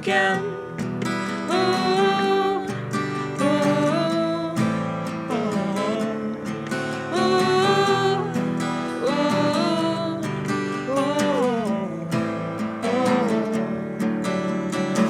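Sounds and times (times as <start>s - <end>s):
person singing wordless melody: 0.0s - 14.1s
strummed acoustic guitar: 0.0s - 15.0s.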